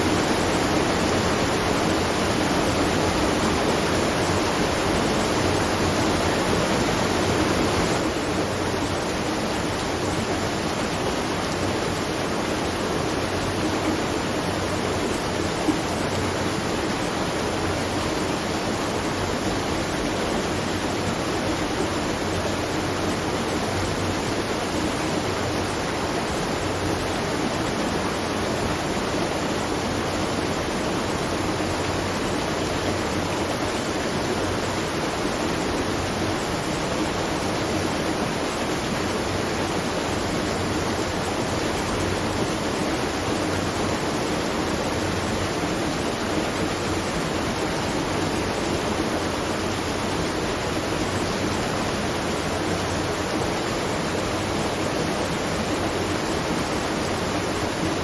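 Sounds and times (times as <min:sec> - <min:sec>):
water rushing and splashing: 0:00.0 - 0:58.0.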